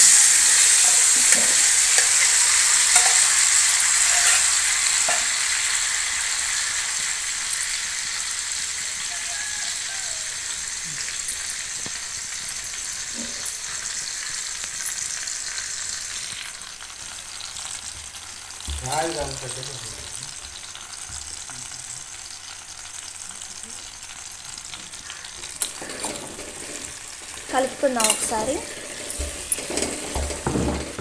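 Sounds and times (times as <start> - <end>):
pumpkin frying in a pan: 0.0 - 31.0.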